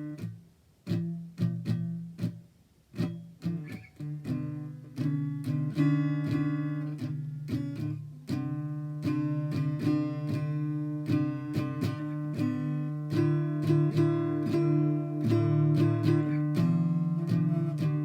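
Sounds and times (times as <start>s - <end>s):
guitar strumming chords: 0.0s - 18.0s.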